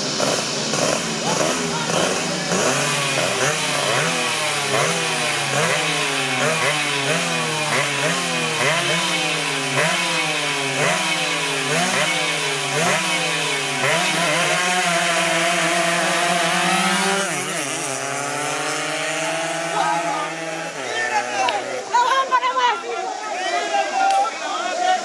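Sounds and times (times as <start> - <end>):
racing engine revving: 0.0 - 22.0.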